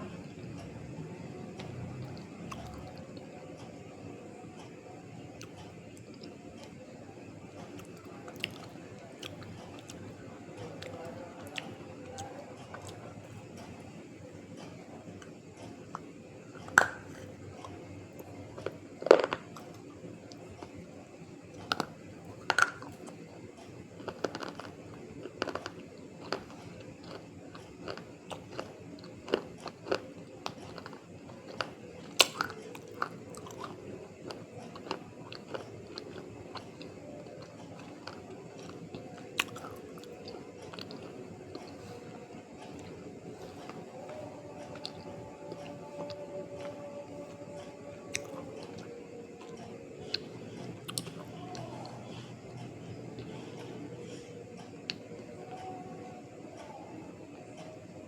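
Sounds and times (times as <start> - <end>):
crunchy clay chewing: 1.5 - 3.3, 7.6 - 13.9, 14.5 - 20.9, 21.5 - 55.6.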